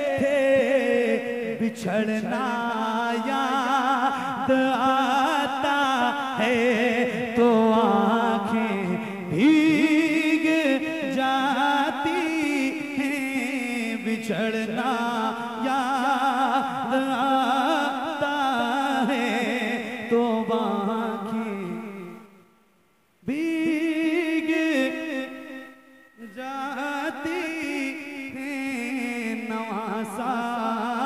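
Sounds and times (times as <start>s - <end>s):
man singing into a microphone: 0.0s - 22.4s, 23.2s - 31.0s.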